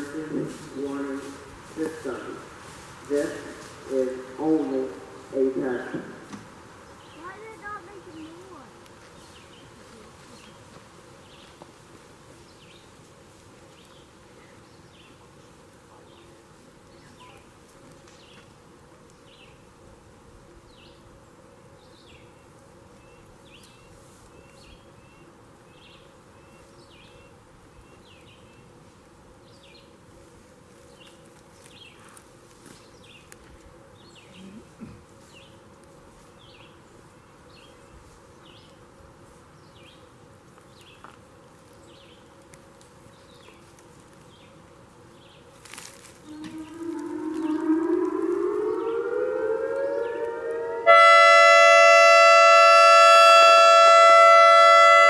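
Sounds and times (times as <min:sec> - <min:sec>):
faint insect buzzing: 0:00.0 - 0:55.0.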